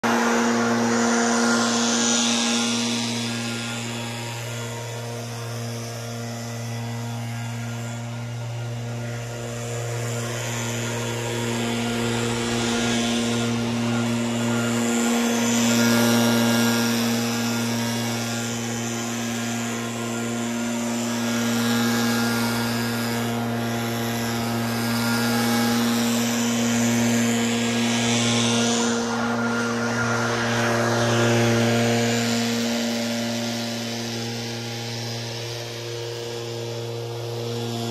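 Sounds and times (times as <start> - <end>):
leaf blower engine drone: 0.0 - 37.9.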